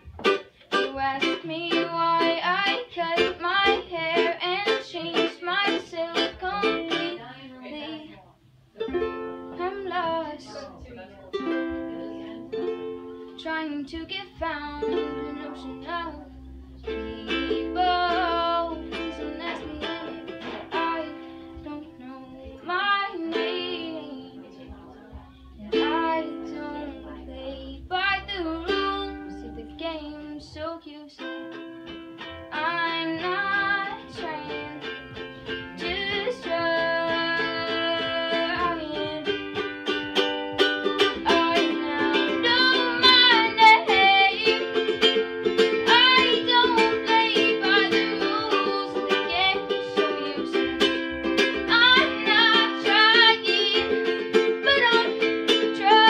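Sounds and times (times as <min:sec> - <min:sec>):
ukulele strumming: 0:00.0 - 0:08.1, 0:08.7 - 0:56.0
person singing: 0:00.7 - 0:08.0, 0:11.4 - 0:31.4, 0:32.5 - 0:56.0.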